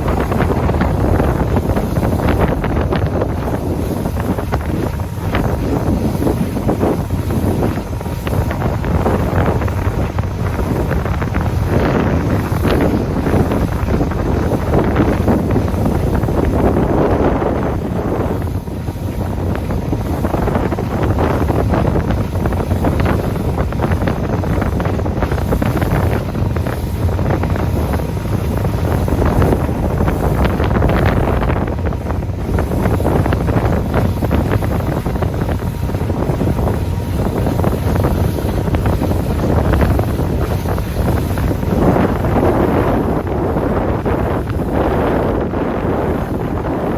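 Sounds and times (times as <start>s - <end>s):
steady low rumble: 0.0s - 46.9s
wind buffeting microphone: 0.0s - 46.9s.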